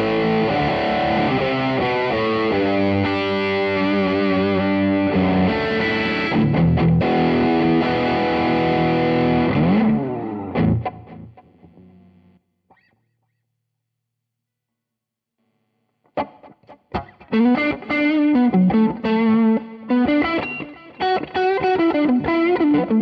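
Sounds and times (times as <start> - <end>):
distorted electric guitar chords: 0.0 - 12.9, 16.1 - 23.0.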